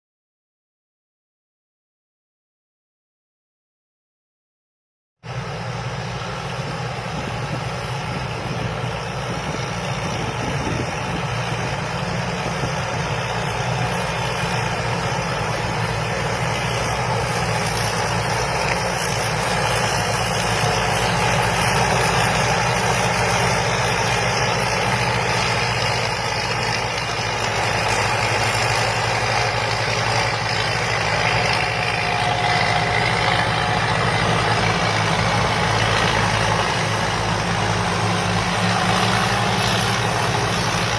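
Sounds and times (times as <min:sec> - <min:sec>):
combine harvester running: 0:05.2 - 0:40.9.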